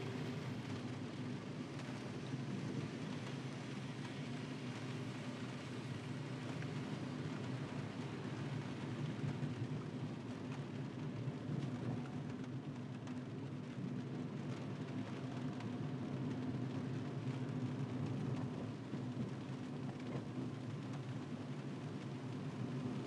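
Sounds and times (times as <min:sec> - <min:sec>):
rain and tyre spray hiss: 0:00.0 - 0:23.0
road and engine rumble: 0:00.0 - 0:23.0.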